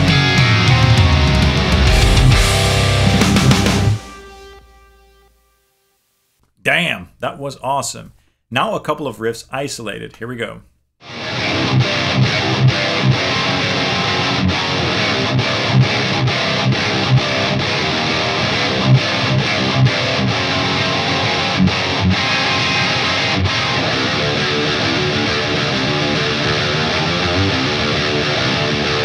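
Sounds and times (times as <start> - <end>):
distorted electric guitar riffs: 0.0 - 5.8, 11.0 - 29.0.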